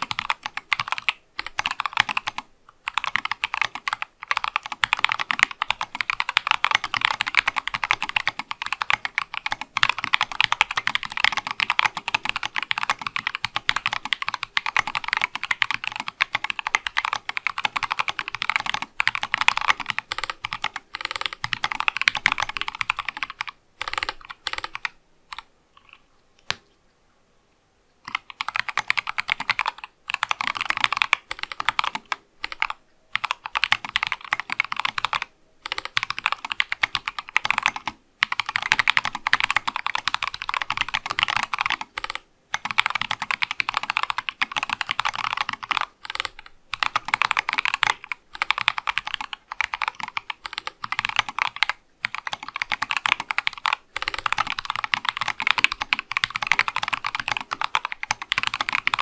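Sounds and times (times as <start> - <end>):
mechanical keyboard typing: 0.0 - 26.6, 28.1 - 59.0.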